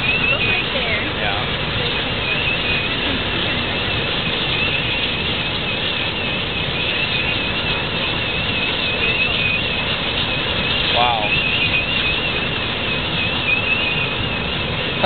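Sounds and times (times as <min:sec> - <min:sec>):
fire hose spraying water: 0:00.0 - 0:15.0
warbling high tone: 0:00.0 - 0:15.0.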